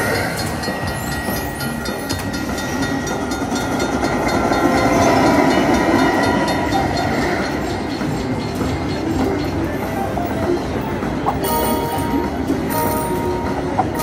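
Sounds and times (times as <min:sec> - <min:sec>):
train clickety-clack and rumble: 0:00.0 - 0:14.0.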